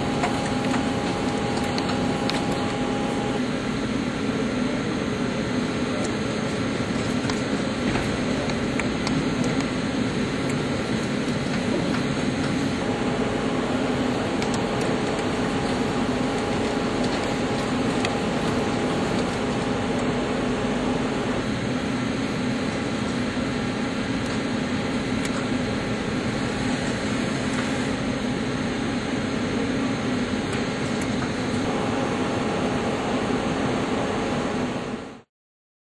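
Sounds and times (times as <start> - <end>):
lathe hiss and hum: 0.0 - 35.2.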